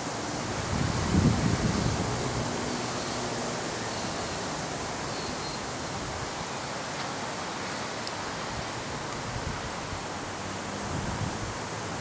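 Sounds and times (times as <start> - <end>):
wind rushing through trees: 0.0 - 12.0.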